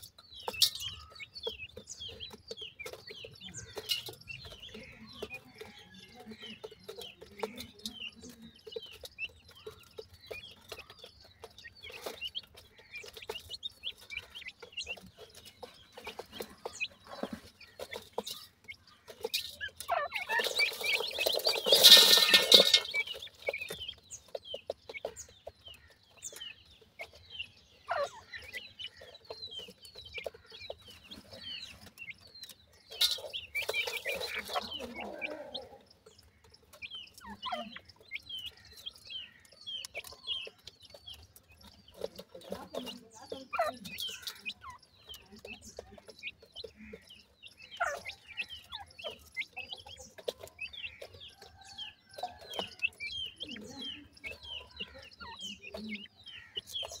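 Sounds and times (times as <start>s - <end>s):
chicks chirping and clucking: 0.0s - 57.0s
pecking taps and scratches: 0.0s - 57.0s.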